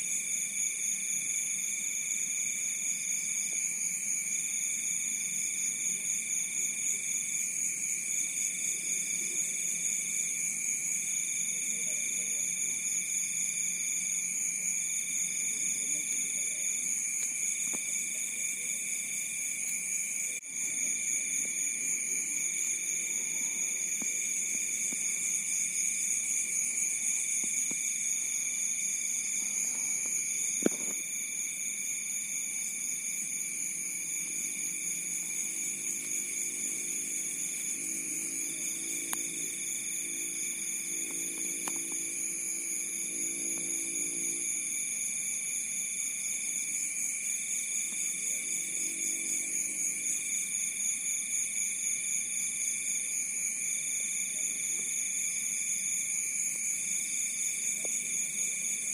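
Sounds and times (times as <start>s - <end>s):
insect singing repeated trills: 0.0s - 58.9s
insects trilling: 0.0s - 58.9s.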